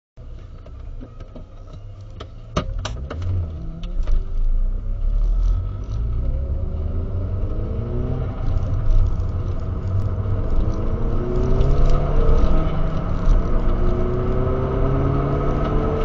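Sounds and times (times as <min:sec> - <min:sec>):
car engine accelerating: 0:00.3 - 0:16.0.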